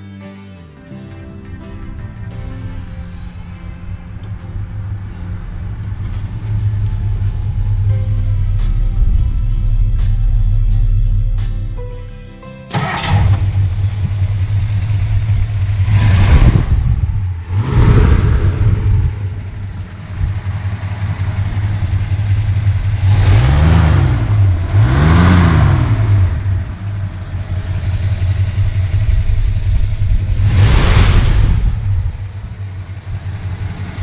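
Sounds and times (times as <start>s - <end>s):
car engine idling and revving: 1.1s - 34.0s.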